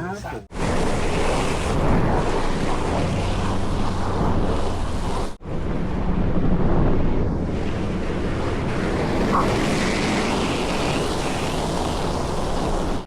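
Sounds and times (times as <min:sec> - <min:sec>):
wind buffeting microphone: 0:00.5 - 0:13.0.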